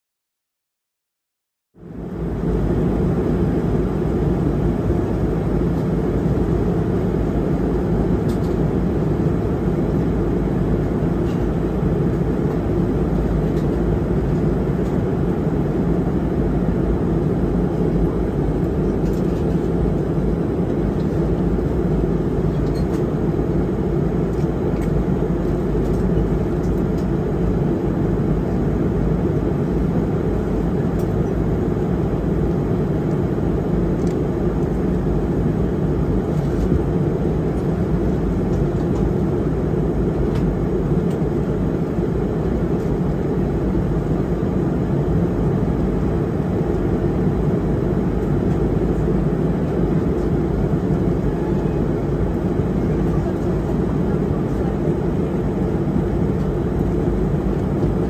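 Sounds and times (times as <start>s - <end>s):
airliner cabin engine drone: 1.8s - 58.0s.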